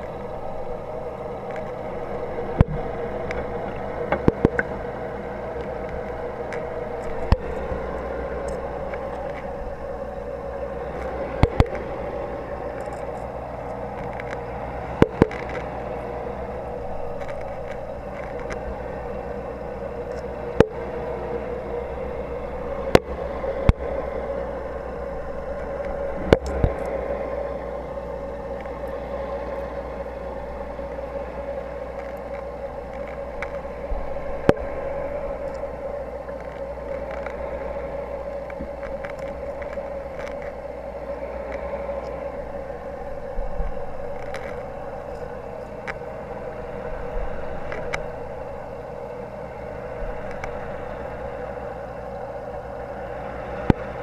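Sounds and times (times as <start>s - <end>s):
air bubbles from aerator: 0.0s - 51.7s.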